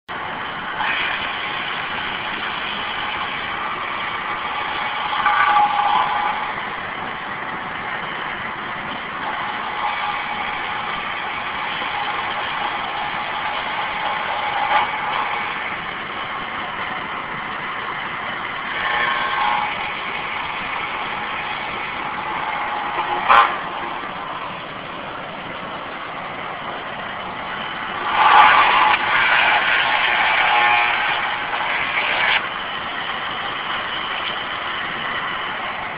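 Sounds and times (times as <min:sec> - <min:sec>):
milling machine cutting plastic: 0:00.1 - 0:35.9
milling machine running: 0:00.1 - 0:35.9.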